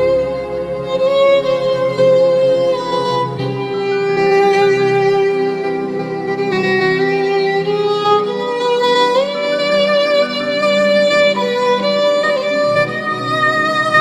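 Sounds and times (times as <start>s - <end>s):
violin playing slow melody: 0.0s - 14.0s.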